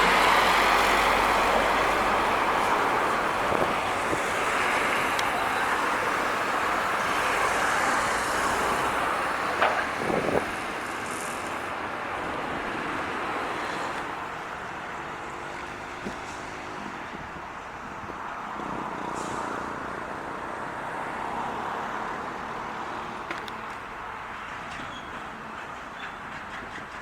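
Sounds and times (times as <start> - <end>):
truck passing: 0.0 - 24.7.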